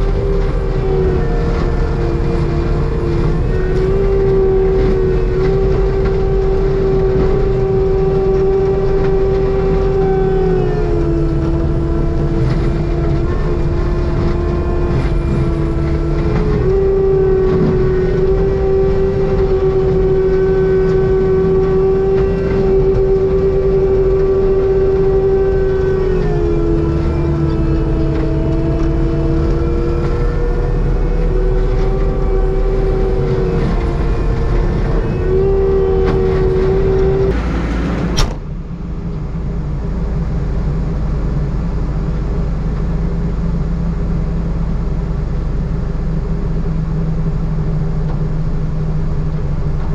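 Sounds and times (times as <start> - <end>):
low engine rumble: 0.0 - 49.9.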